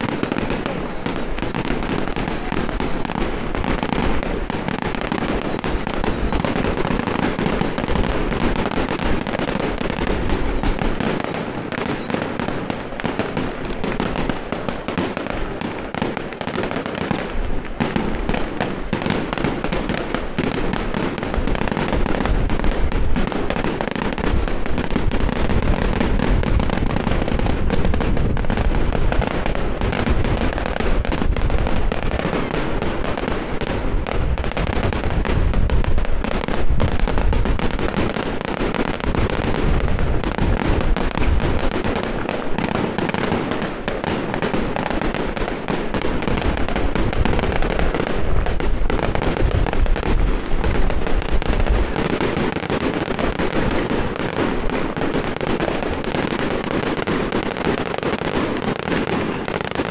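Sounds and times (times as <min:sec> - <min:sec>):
firecrackers and fireworks crackling: 0:00.0 - 0:59.9.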